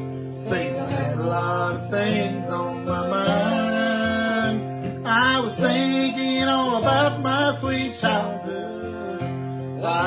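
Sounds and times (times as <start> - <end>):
acoustic guitar: 0.0 - 10.0
person singing: 0.3 - 10.0.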